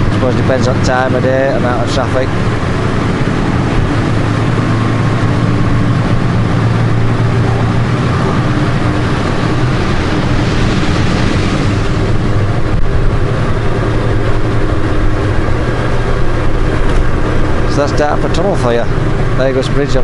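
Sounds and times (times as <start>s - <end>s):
motorcycle engine hum: 0.0s - 20.0s
road noise: 0.0s - 20.0s.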